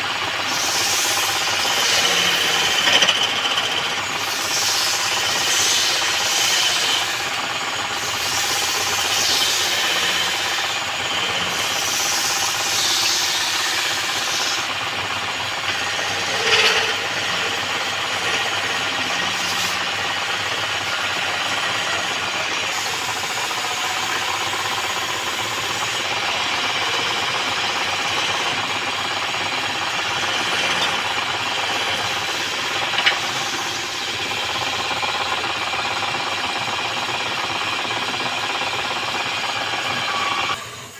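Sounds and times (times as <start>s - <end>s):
wood lathe tool scraping: 0.0s - 40.7s.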